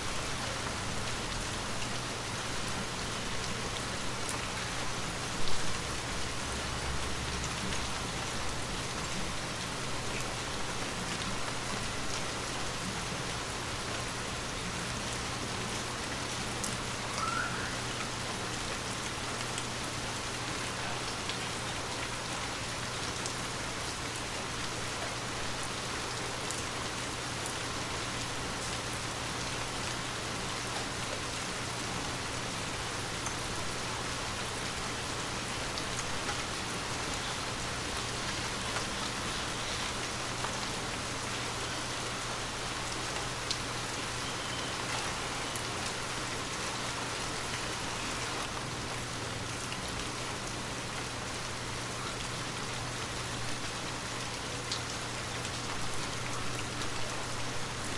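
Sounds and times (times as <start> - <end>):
rain pattering on a window: 0.0 - 57.9.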